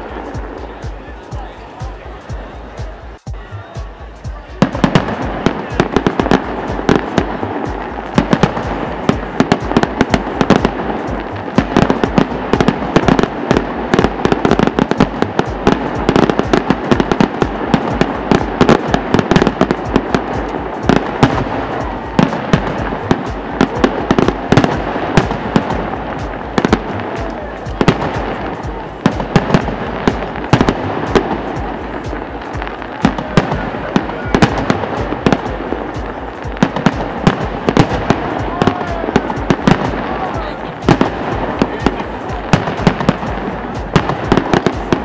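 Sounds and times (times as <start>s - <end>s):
firework bangs and crackles: 0.0s - 45.0s.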